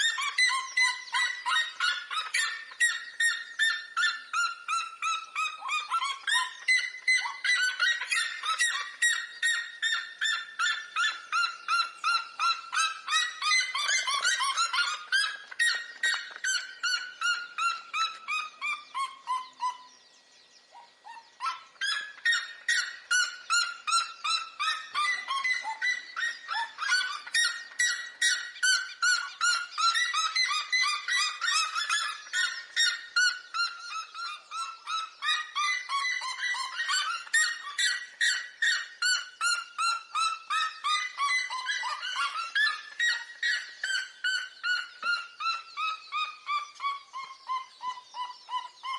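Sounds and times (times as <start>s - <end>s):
birds yelping calls: 0.0s - 48.9s.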